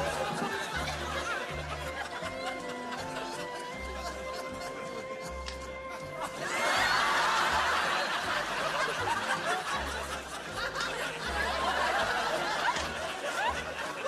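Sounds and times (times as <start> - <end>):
group of people laughing: 0.0 - 14.0
overlapping chatter: 0.0 - 14.0.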